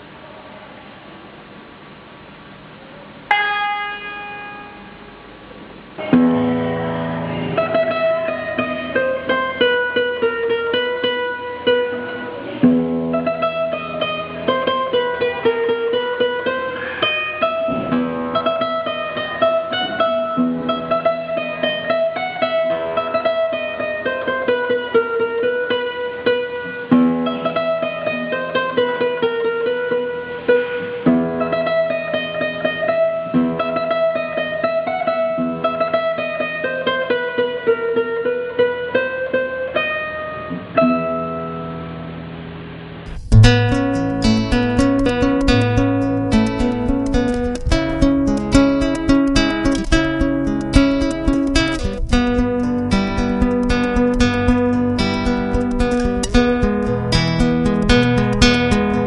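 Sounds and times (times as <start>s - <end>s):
acoustic guitar tune: 3.2s - 59.0s.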